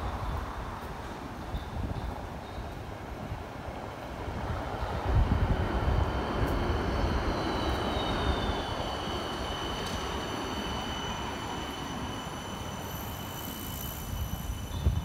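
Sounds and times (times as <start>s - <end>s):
tram rolling on tracks: 0.0s - 15.0s.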